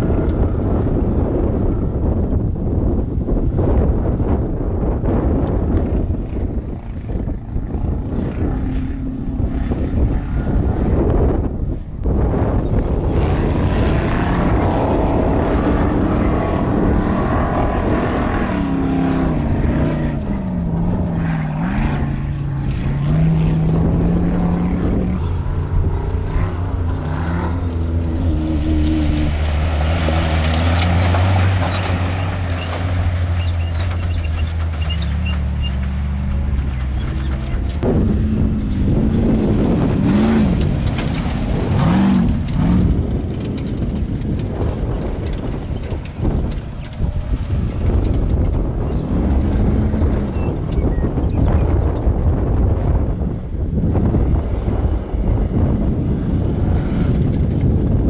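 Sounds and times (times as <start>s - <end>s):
race vehicle engines revving: 5.0s - 58.0s.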